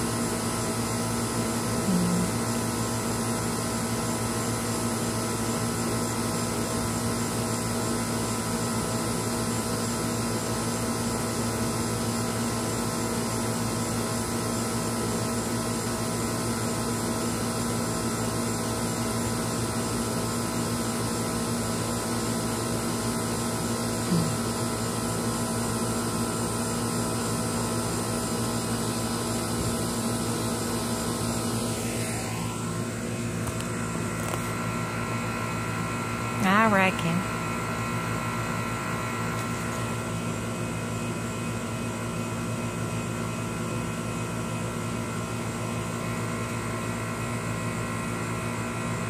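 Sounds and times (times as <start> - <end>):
steady machine hum: 0.0 - 49.0.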